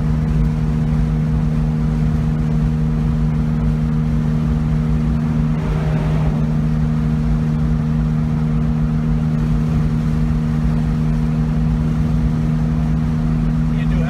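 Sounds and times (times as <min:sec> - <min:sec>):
car engine droning: 0:00.0 - 0:14.0
low road rumble: 0:00.0 - 0:14.0.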